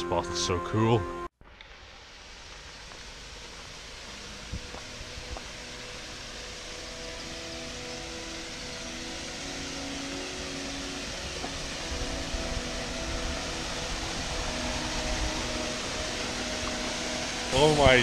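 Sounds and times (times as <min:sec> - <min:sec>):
waterfall rushing into a pool: 0:01.6 - 0:18.0.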